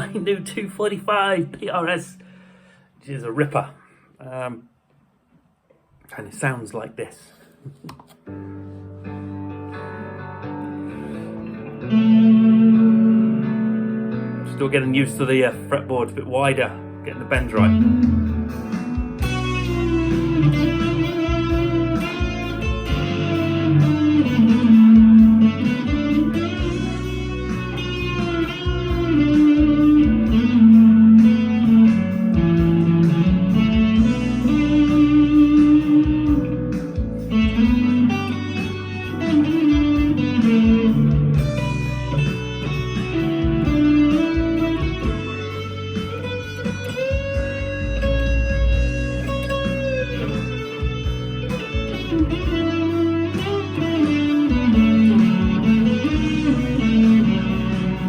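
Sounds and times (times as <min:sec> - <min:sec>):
overdriven electric guitar lead: 0:07.9 - 0:15.5, 0:16.8 - 0:58.0.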